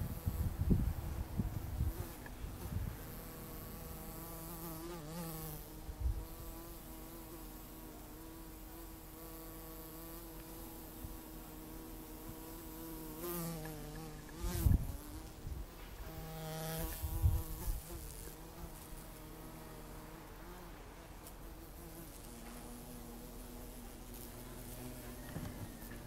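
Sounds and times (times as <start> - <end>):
bee buzzing: 0.0 - 26.0.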